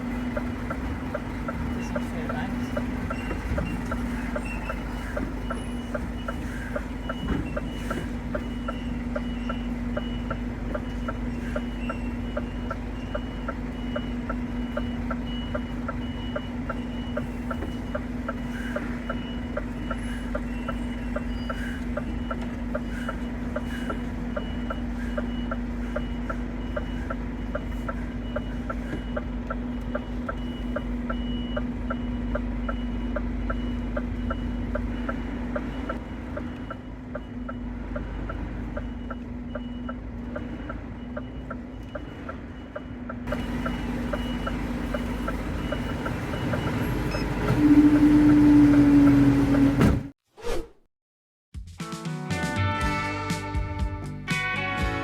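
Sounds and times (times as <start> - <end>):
diesel engine running: 0.0 - 50.1
reverse alarm beeping: 1.5 - 49.8.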